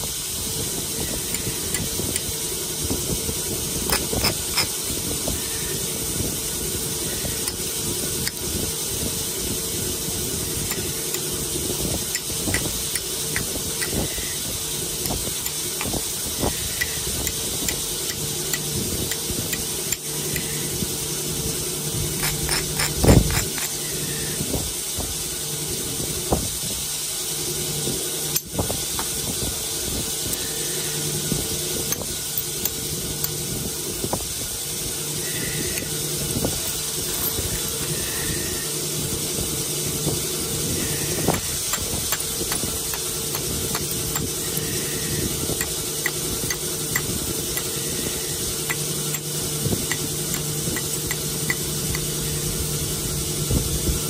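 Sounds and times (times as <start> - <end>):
rock saw running: 0.0 - 54.0.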